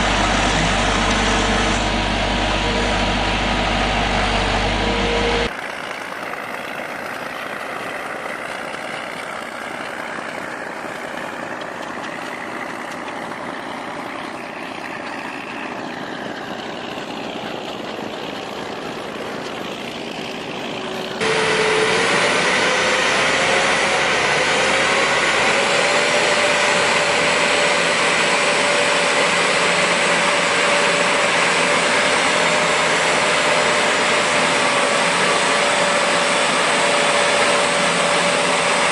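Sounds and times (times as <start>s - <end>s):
heavy machinery engines running: 0.0s - 38.9s
steady machine whine: 0.0s - 38.9s.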